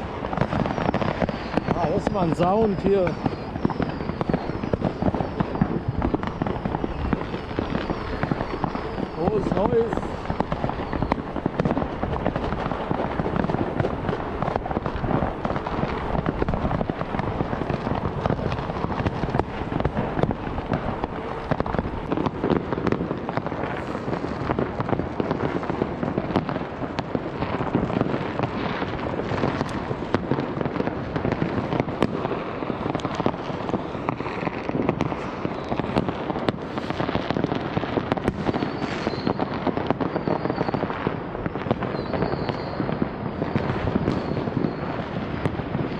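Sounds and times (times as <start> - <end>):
fireworks crackling and banging: 0.0 - 45.9.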